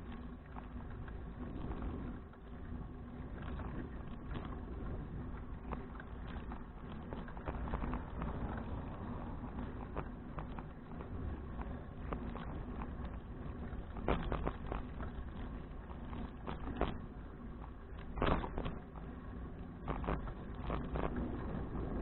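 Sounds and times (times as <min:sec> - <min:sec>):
bicycle knocks and rattles from bumps: 0:00.0 - 0:22.0
bicycle riding rumble: 0:00.0 - 0:22.0.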